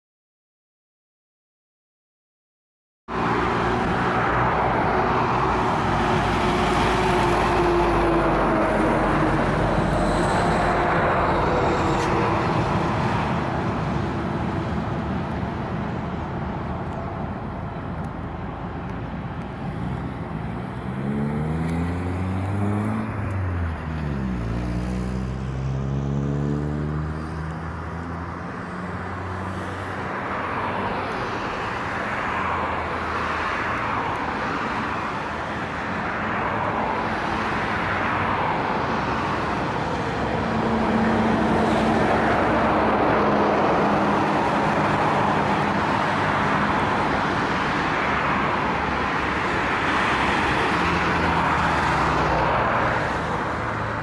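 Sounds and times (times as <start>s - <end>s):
vehicles passing by: 3.1s - 54.0s.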